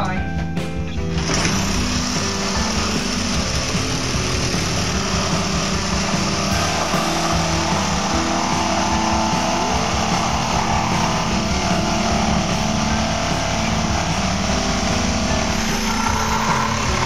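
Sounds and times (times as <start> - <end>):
power saw cutting: 1.2 - 17.0.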